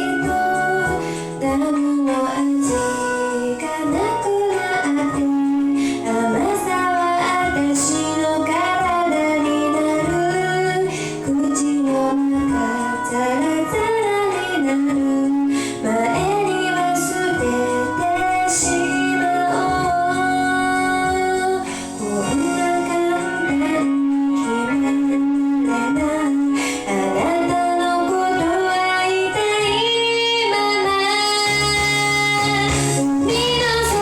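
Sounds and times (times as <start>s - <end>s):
woman singing: 0.0s - 34.0s.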